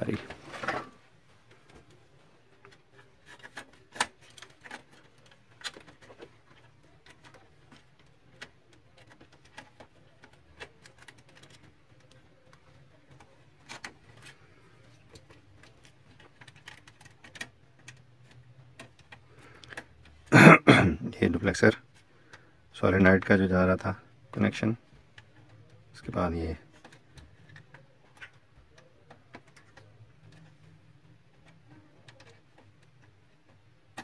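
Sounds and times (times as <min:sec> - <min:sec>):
clicks and taps on plastic parts: 0:02.6 - 0:20.3, 0:23.2 - 0:34.0.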